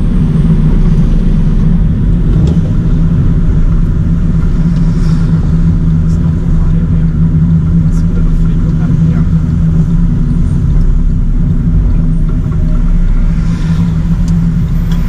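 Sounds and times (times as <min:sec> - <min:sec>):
engine droning inside car: 0:00.0 - 0:15.0.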